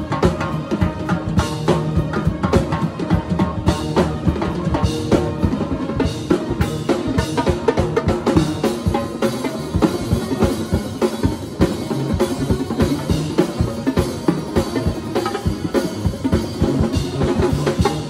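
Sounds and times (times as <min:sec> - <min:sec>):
drum kit and tenor drums: 0:00.0 - 0:18.0.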